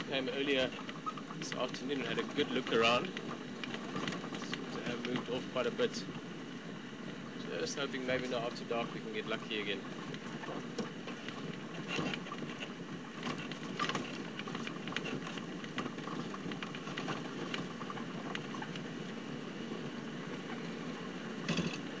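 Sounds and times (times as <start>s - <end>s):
body rattles and squeaks: 0.0s - 22.0s
vehicle engine and rolling rumble: 0.0s - 22.0s.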